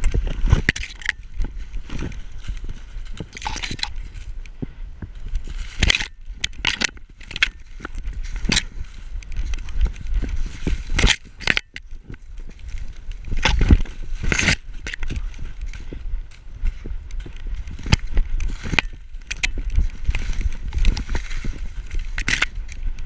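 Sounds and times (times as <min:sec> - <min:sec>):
corn stalks crackling and scraping: 0:00.0 - 0:23.0
paw steps crunching in snow: 0:00.0 - 0:23.0
wind rumble on microphone: 0:00.0 - 0:23.0.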